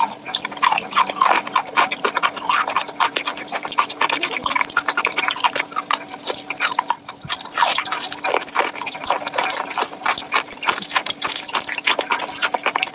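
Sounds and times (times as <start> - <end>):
sharp clicks and squelches: 0.0 - 12.9
wet chewing and smacking: 0.0 - 12.9.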